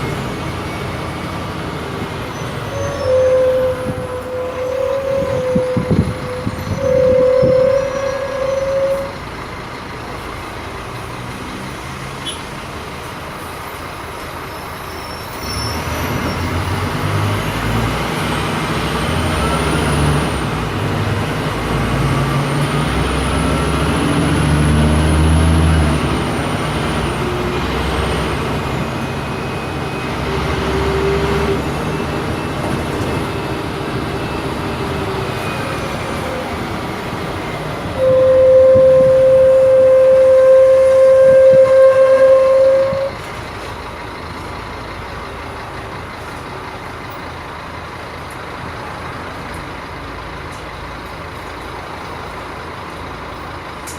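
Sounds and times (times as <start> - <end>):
bus engine accelerating: 0.0 - 53.9.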